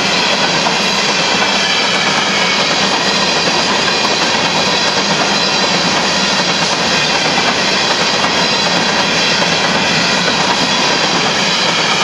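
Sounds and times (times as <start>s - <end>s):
steel train wheels on rails: 0.0s - 12.0s.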